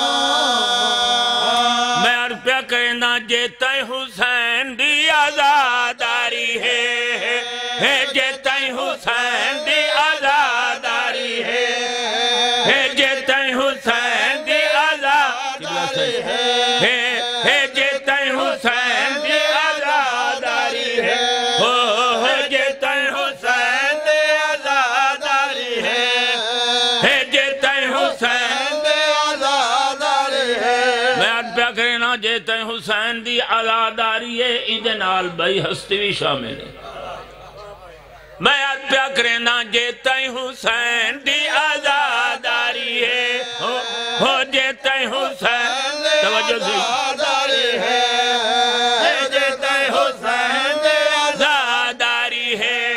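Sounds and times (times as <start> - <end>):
men chanting in unison: 0.0 - 35.4, 36.6 - 52.9
lead reciter singing: 0.0 - 52.9.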